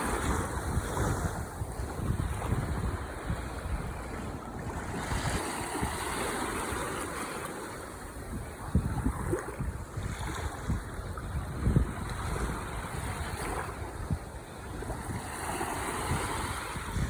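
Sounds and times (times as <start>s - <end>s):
ocean surf washing on shore: 0.0s - 17.0s
wind rumbling on microphone: 0.0s - 17.0s.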